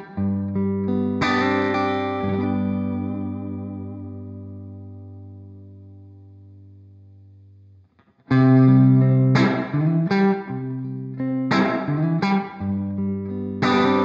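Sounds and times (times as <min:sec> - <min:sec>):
electric guitar chords strummed: 0:00.0 - 0:06.4, 0:08.3 - 0:14.0.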